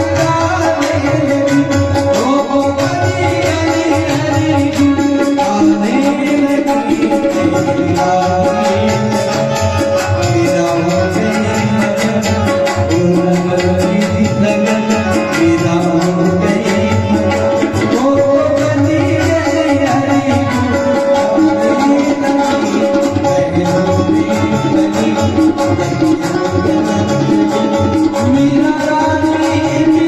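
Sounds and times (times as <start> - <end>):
tabla playing fast rhythm: 0.0 - 30.0.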